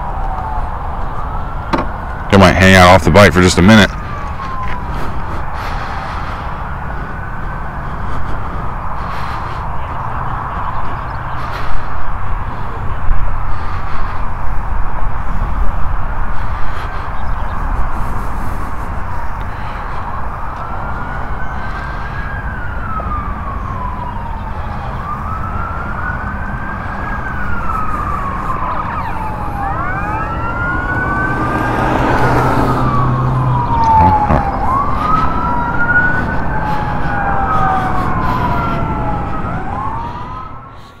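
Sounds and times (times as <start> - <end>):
emergency siren wailing: 0.0 - 41.0.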